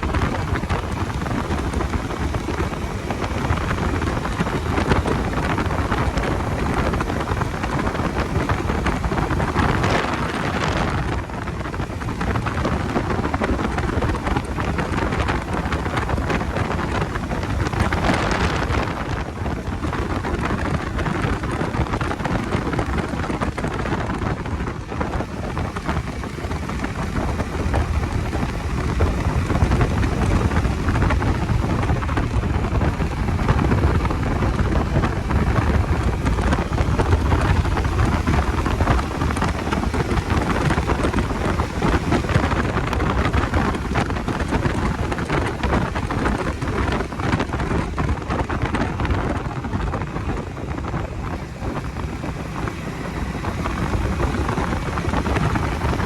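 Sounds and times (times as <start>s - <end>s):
motorcycle engine rumble: 0.0s - 56.0s
road noise: 0.0s - 56.0s
wind buffeting microphone: 0.0s - 56.0s.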